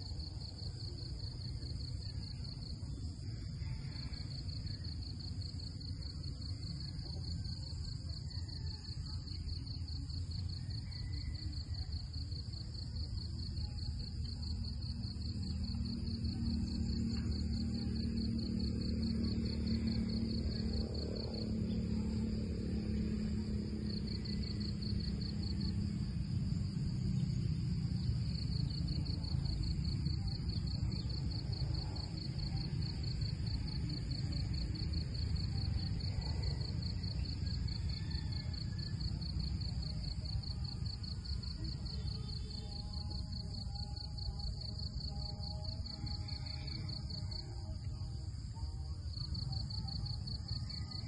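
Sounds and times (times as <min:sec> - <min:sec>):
insects trilling: 0:00.0 - 0:51.0
low outdoor rumble: 0:00.0 - 0:51.0.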